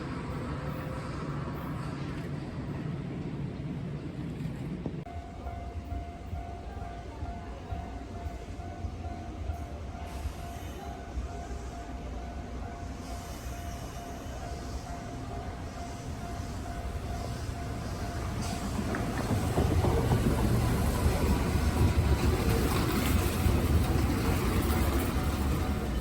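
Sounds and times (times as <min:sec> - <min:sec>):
electric train rumble: 0:00.0 - 0:26.0.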